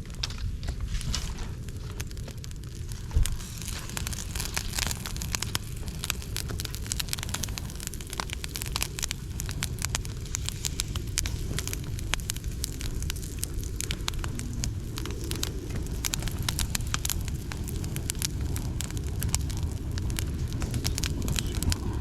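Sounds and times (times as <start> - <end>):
fire crackling and popping: 0.0 - 22.0
low steady fire rumble: 0.0 - 22.0.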